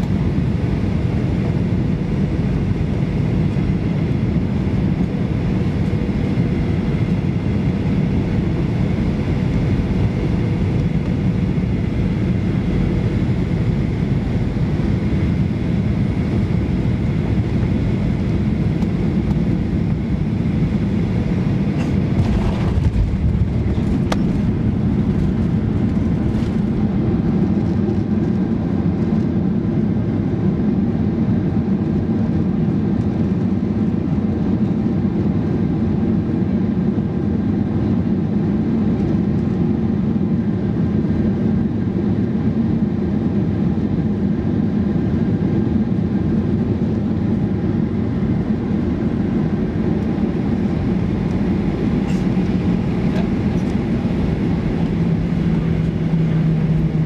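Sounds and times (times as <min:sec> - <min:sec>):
jet engines running: 0:00.0 - 0:57.0
low rumble inside aircraft cabin: 0:00.0 - 0:57.0.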